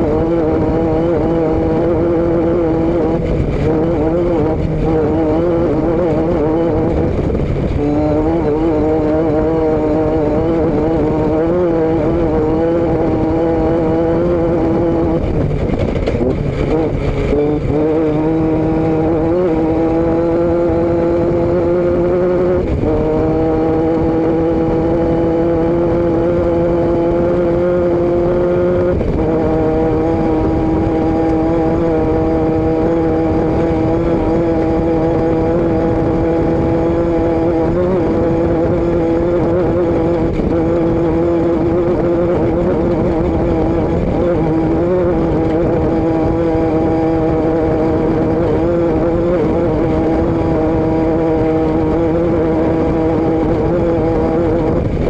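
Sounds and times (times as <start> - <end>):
road and wind rumble: 0.0 - 55.0
vehicle engine droning: 0.0 - 55.0.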